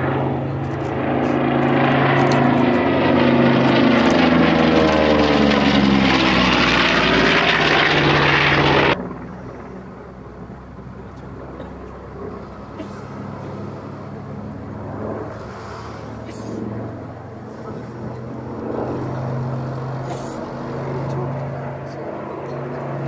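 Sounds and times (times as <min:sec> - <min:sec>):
propeller plane flying overhead: 0:00.0 - 0:23.0.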